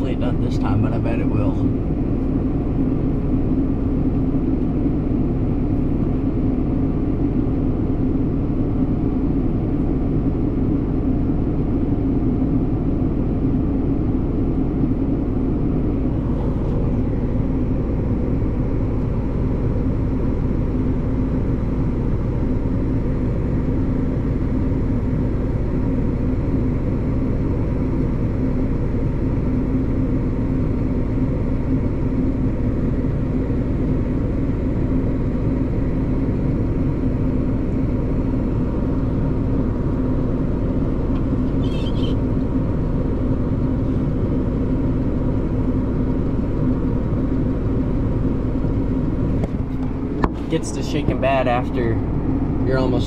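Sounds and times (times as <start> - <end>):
tractor engine drone: 0.0 - 53.0.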